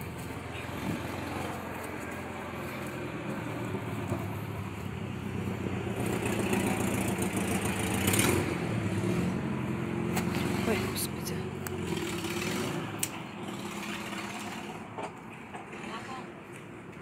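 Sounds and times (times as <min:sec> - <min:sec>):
engine idling: 0:00.0 - 0:16.5.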